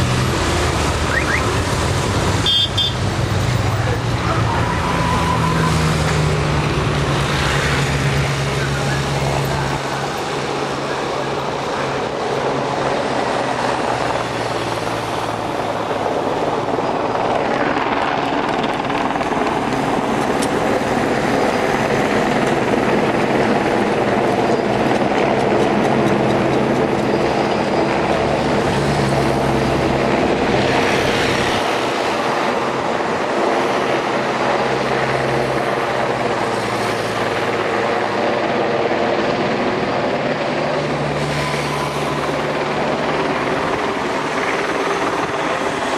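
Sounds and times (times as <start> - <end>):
helicopter drone overhead: 0.0 - 45.9.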